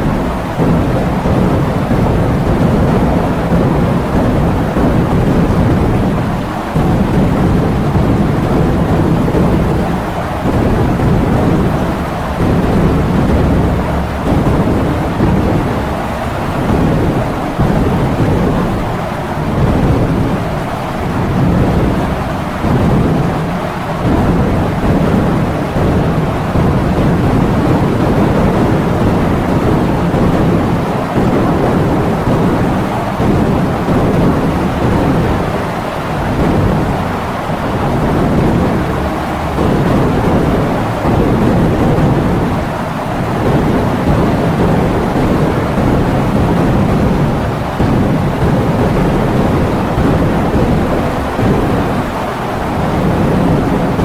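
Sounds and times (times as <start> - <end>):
heavy rain: 0.0 - 54.0
strong wind: 0.0 - 54.0.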